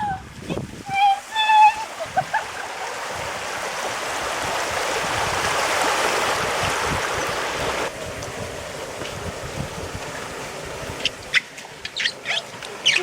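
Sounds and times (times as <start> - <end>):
water rushing down a slide: 0.0 - 13.0.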